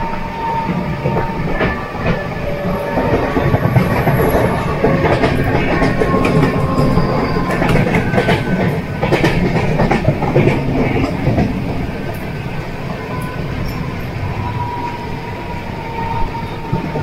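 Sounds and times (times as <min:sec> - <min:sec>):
train wheels rumbling on rails: 0:00.0 - 0:17.0
wheels clacking over rail joints: 0:00.6 - 0:14.5.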